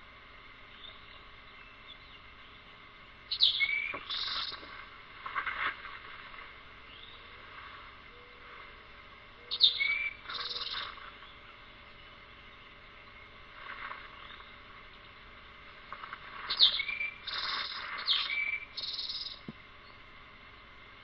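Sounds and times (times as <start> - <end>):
songbird singing: 0.6 - 4.7, 6.8 - 8.7, 9.3 - 21.0.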